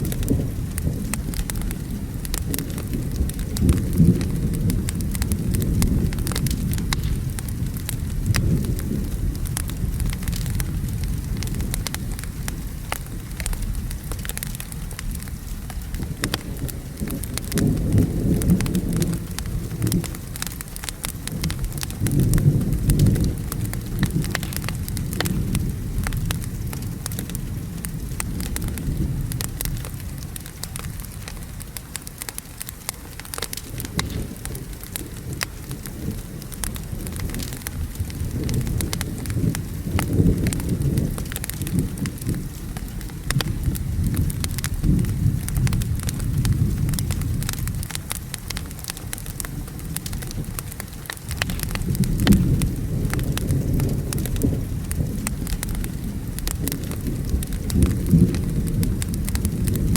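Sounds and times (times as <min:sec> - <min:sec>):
steady rain: 0:00.0 - 0:59.9
thunder rumbling: 0:00.0 - 0:59.9
wood fire crackling: 0:00.0 - 0:59.9.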